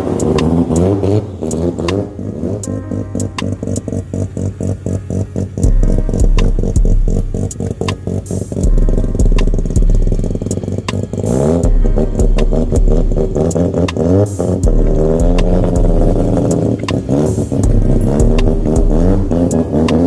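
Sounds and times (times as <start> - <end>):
car engines revving: 0.0 - 20.0
music with heavy bass beat: 0.0 - 20.0.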